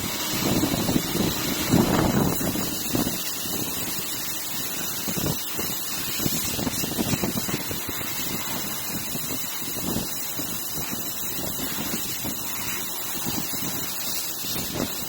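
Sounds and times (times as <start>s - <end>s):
machining centre hissing: 0.0s - 15.0s.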